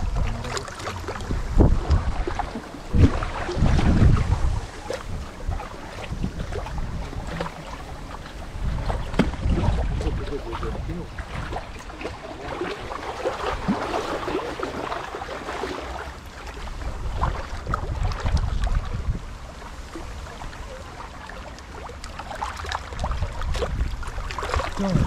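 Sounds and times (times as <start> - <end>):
wind buffeting microphone: 0.0 - 15.7, 16.6 - 20.7, 23.0 - 25.0.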